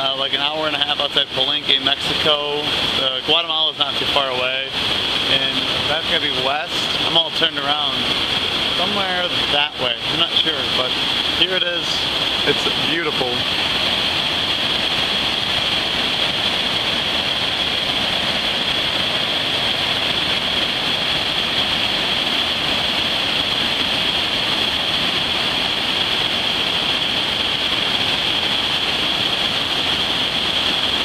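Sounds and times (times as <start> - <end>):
waterfall roaring: 0.0 - 31.0.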